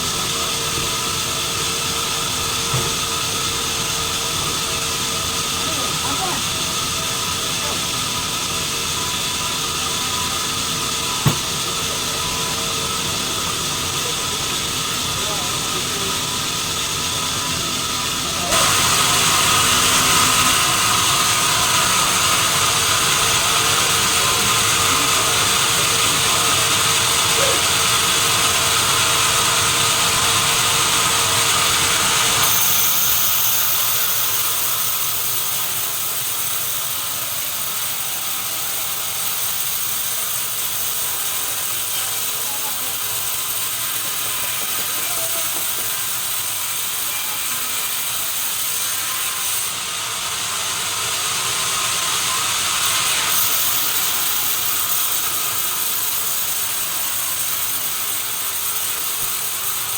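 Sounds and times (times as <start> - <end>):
sawmill machinery sawing log: 0.0 - 59.9.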